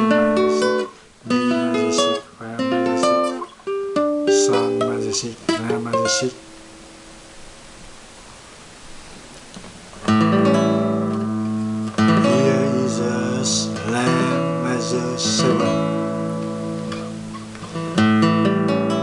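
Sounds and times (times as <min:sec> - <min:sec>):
acoustic guitar chords strummed: 0:00.0 - 0:08.3, 0:08.9 - 0:19.0.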